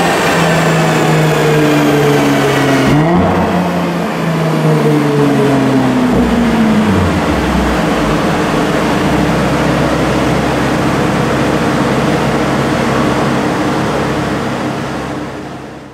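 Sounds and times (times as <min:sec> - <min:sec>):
car engine low drone: 0:01.7 - 0:15.8.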